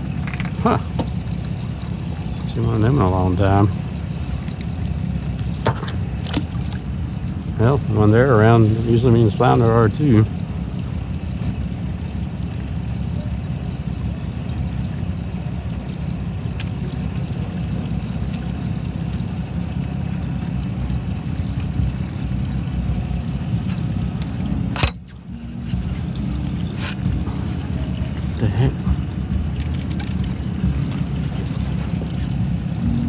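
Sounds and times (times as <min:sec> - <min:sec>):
choppy water: 0:00.0 - 0:33.0.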